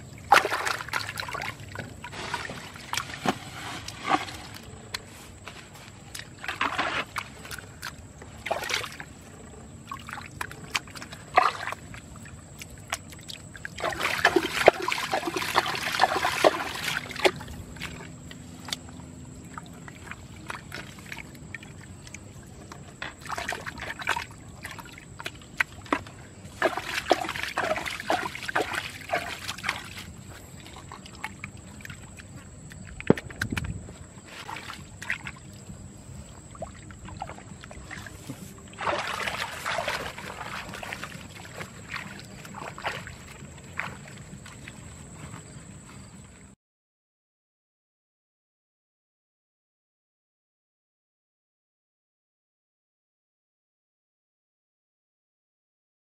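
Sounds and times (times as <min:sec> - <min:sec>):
hands squelching in muddy water: 0:00.0 - 0:46.5.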